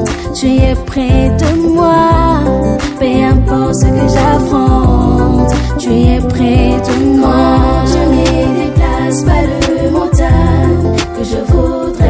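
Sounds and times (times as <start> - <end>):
gospel music with keyboard chords: 0.0 - 12.0
kick drum and cymbals: 0.0 - 12.0.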